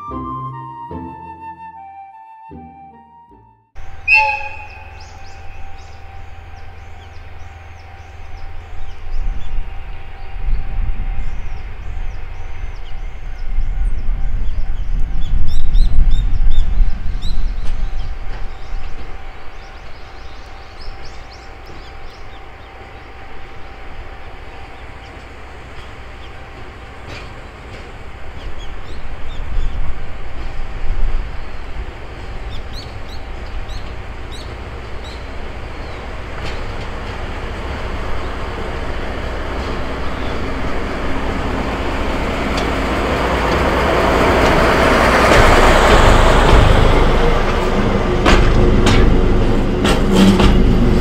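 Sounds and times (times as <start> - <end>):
diesel locomotive rumble: 3.8 - 51.0.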